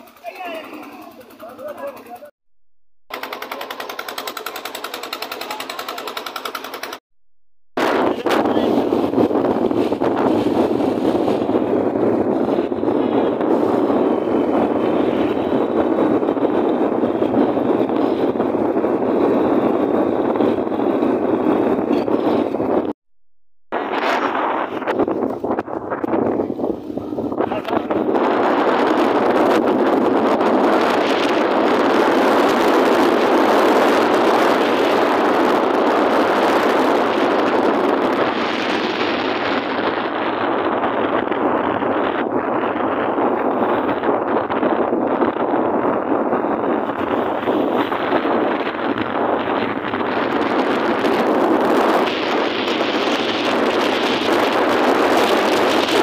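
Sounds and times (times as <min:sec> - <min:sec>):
motorbike road and engine noise: 0:00.0 - 0:02.3, 0:03.1 - 0:07.0, 0:07.8 - 0:23.0, 0:23.8 - 0:56.0
wind rushing over microphone: 0:07.8 - 0:23.0, 0:23.7 - 0:56.0.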